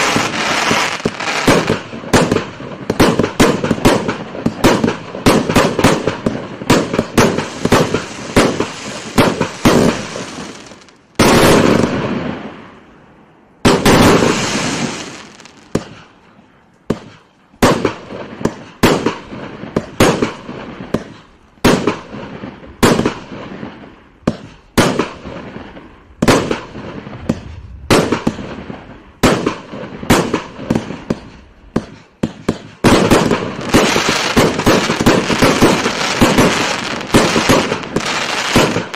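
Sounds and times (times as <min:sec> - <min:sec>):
firework shots firing: 0:00.0 - 0:12.6, 0:13.6 - 0:16.2, 0:16.9 - 0:38.9
big firework bursts: 0:00.0 - 0:38.9.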